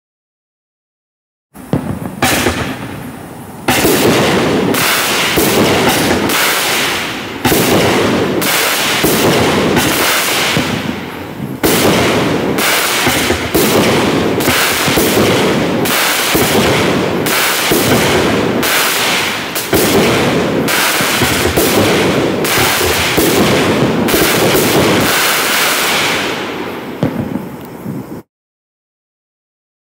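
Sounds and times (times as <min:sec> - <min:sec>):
fireworks bangs and crackling: 0:01.6 - 0:28.3.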